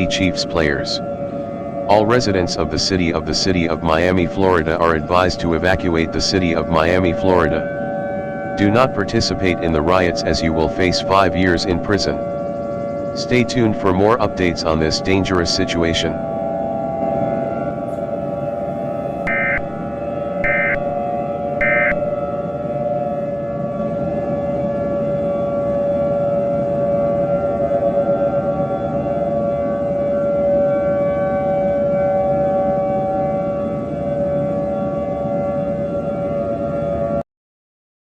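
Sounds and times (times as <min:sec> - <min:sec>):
warning siren: 0:00.0 - 0:37.2.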